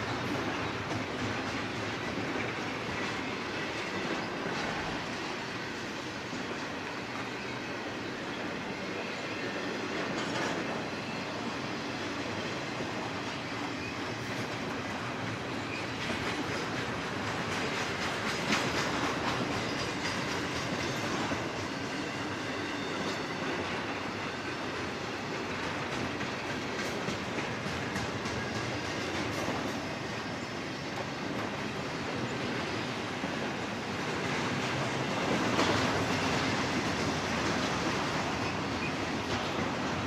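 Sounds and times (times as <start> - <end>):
freight train wheels rumbling and clattering: 0.0 - 40.0.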